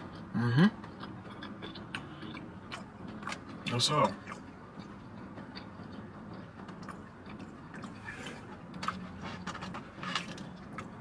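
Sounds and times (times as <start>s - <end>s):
person chewing: 0.0s - 3.6s, 4.2s - 11.0s.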